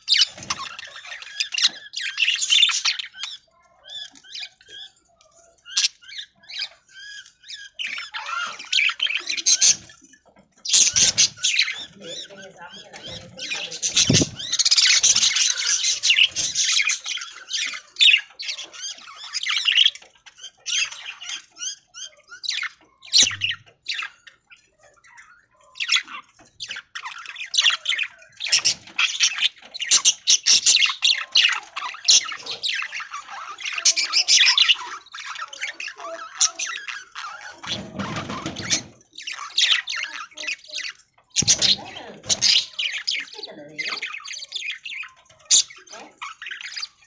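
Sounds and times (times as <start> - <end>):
budgerigars chirping: 0.0 - 47.0.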